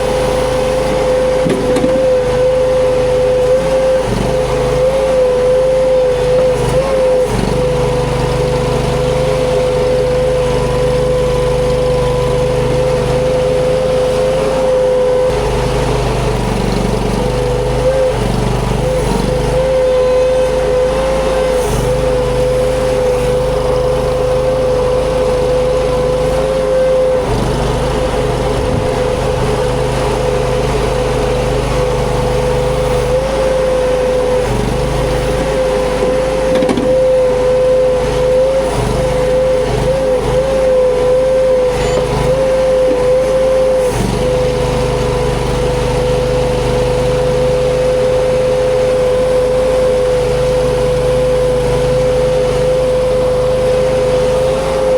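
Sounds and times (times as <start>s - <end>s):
skid steer engine with high whine: 0.0s - 54.9s.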